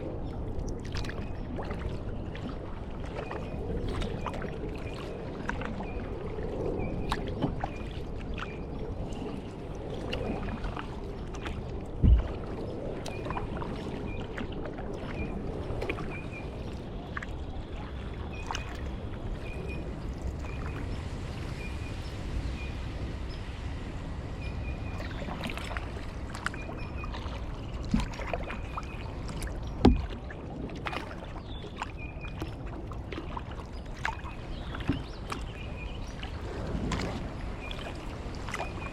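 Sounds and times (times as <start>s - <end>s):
small clicks and drips: 0.0s - 23.7s, 24.3s - 38.9s
water washing against kayak: 0.0s - 38.9s.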